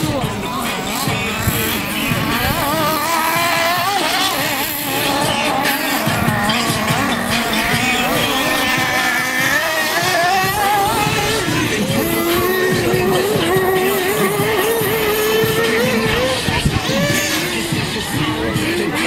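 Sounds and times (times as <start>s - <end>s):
model car engines buzzing: 0.0s - 19.0s.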